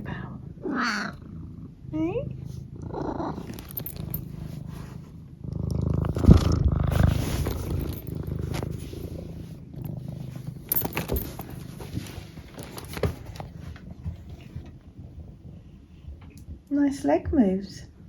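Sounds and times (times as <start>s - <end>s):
cat purring: 0.0s - 17.2s.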